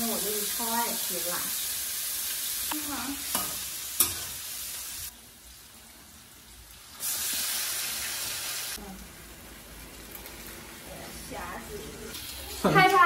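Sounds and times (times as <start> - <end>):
stir-fry sizzling in pan: 0.0 - 13.0.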